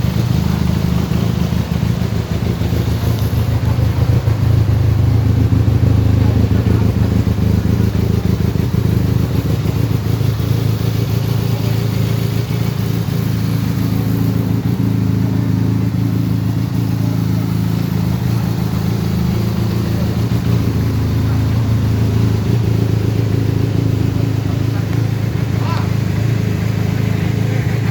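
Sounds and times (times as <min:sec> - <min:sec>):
motorcycle engine idling: 0:00.0 - 0:27.9.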